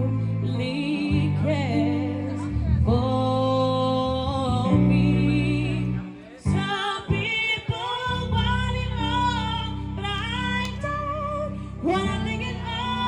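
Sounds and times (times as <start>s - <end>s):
electronic keyboard chords: 0.0s - 13.0s
woman singing into a microphone: 0.0s - 13.0s.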